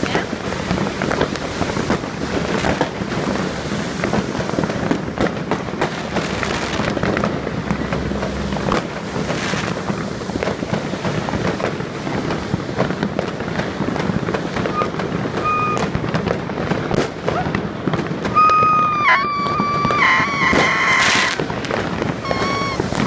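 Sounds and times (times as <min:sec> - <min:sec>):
fireworks cracking and popping: 0:00.0 - 0:23.0.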